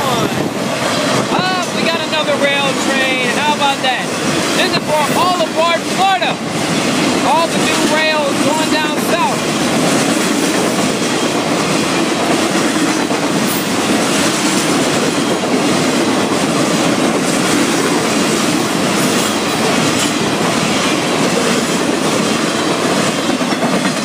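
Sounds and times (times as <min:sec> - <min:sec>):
steel wheels rumbling on track: 0:00.0 - 0:24.0.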